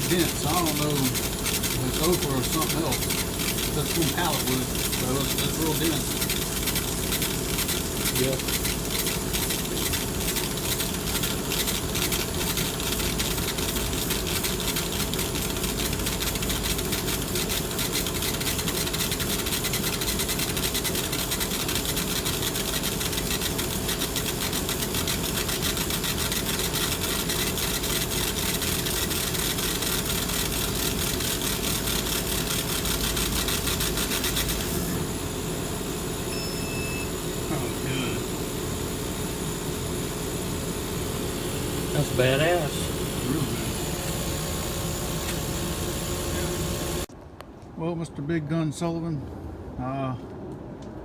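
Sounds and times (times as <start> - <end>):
electric power tool running: 0.0 - 47.1.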